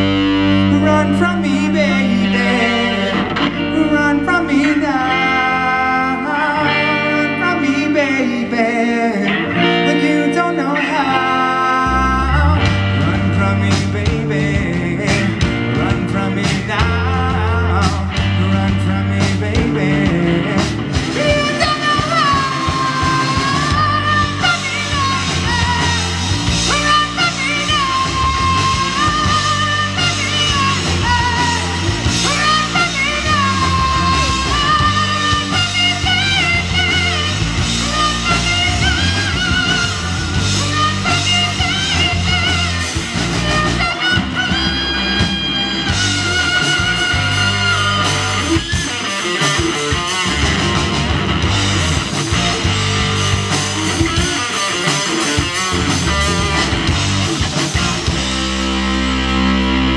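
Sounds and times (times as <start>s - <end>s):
drum kit: 0.0s - 5.4s, 11.9s - 59.9s
bass guitar: 0.0s - 59.9s
electric guitar: 0.0s - 59.9s
man singing: 0.4s - 50.5s.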